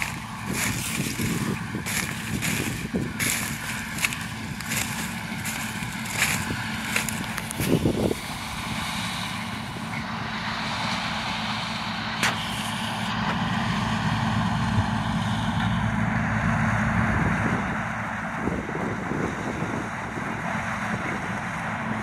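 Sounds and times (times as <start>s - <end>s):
combine harvester engine and threshing: 0.0s - 22.0s.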